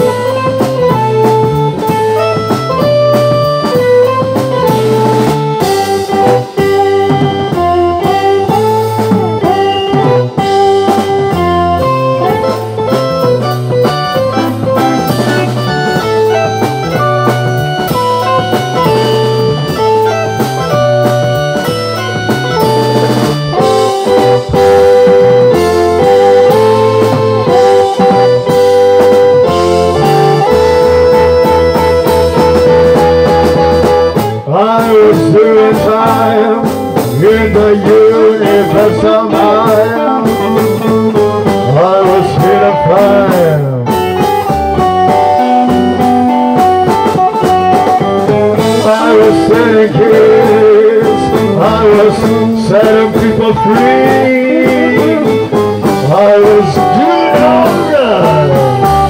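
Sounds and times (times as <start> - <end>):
drum kit: 0.0 - 59.0
electric guitar: 0.0 - 59.0
electric keyboard chords: 0.0 - 59.0
lead line with bending pitch: 0.0 - 59.0.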